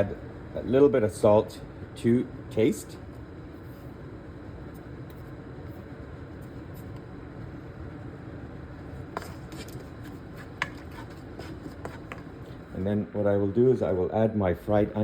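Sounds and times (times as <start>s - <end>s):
steady low kitchen noise: 0.0s - 15.0s.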